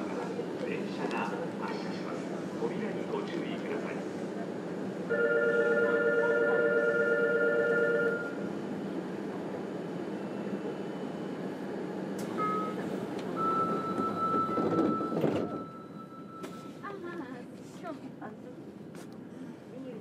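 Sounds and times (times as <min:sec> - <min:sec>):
electric train humming: 0:00.0 - 0:17.4.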